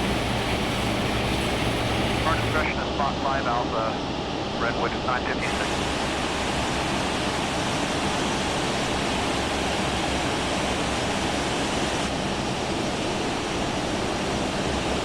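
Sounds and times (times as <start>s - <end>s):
cockpit ventilation airflow: 0.0s - 15.0s
jet engines idling: 0.0s - 15.0s.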